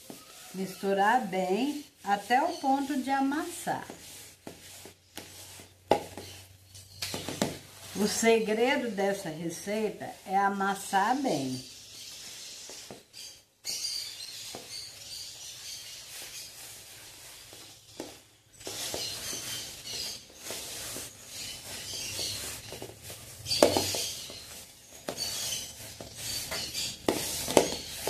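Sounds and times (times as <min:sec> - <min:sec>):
hands kneading crumbly dough: 0:00.0 - 0:13.2, 0:14.1 - 0:28.0.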